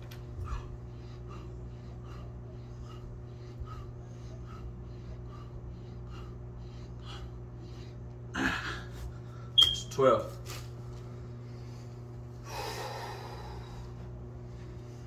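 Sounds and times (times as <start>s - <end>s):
steady low hum: 0.0s - 15.0s
man breathing hard: 0.2s - 9.6s, 11.0s - 15.0s.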